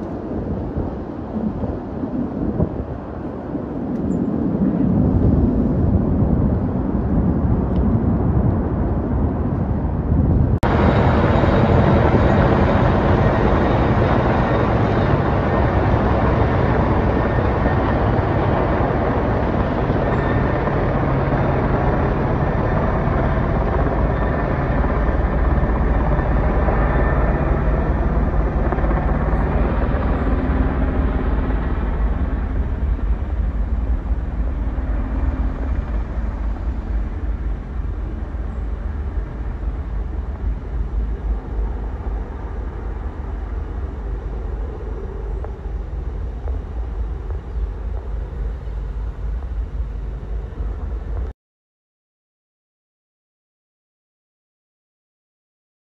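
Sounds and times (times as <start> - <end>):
distant aircraft flying low: 0.0 - 51.3
helicopters flying overhead: 0.0 - 51.3.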